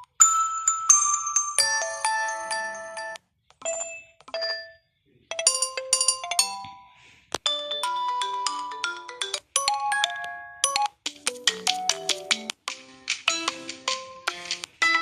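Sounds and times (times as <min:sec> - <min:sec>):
phone ringtone melodies: 0:00.0 - 0:15.0.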